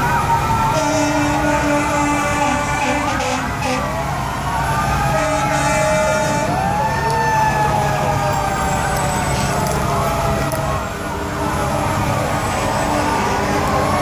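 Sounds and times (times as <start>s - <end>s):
emergency vehicle sirens wailing: 0.0s - 14.0s.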